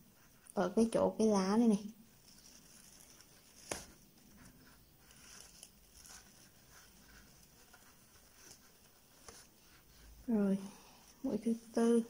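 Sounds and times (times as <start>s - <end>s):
cord rustling through crochet stitches: 0.0s - 12.0s.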